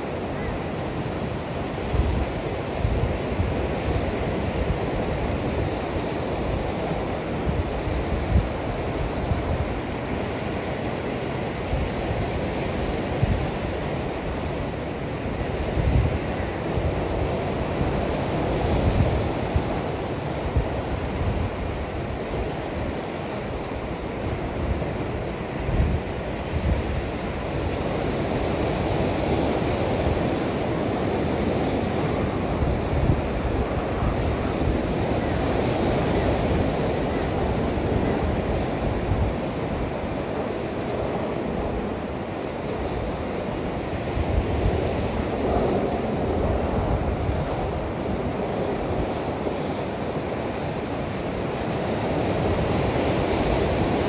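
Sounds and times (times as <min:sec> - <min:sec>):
ocean surf washing against rocks: 0:00.0 - 0:54.0
wind buffeting microphone: 0:00.3 - 0:54.0.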